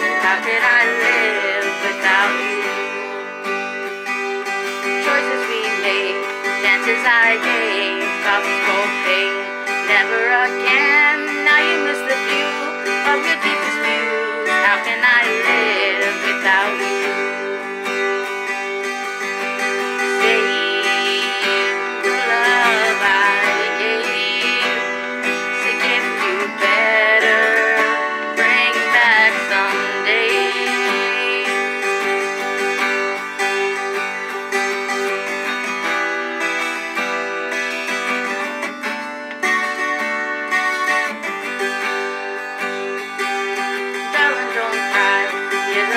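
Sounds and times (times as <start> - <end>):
acoustic guitar strumming: 0.0 - 45.9.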